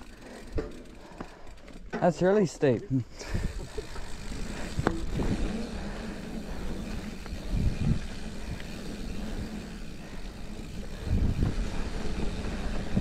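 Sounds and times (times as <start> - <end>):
bike thudding over bumps: 0.0 - 2.3, 3.2 - 13.0
bike tyres rumbling over dirt: 0.0 - 2.5, 3.2 - 13.0.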